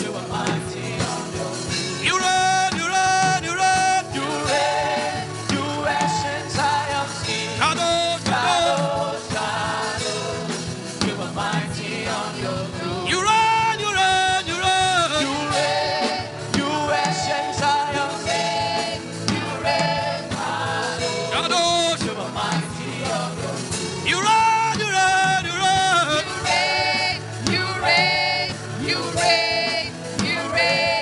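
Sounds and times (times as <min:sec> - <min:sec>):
gospel worship music: 0:00.0 - 0:31.0
voices singing: 0:00.0 - 0:31.0.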